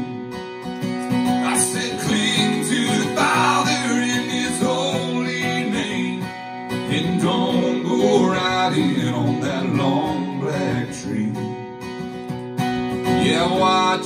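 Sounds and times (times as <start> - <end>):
acoustic guitar strummed: 0.0 - 14.0.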